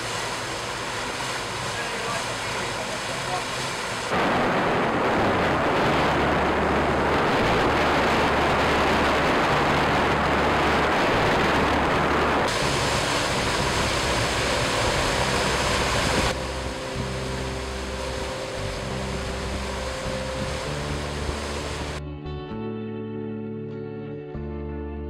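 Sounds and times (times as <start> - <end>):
steamship rushing noise: 0.0 - 22.0
low steady hum: 0.0 - 22.1.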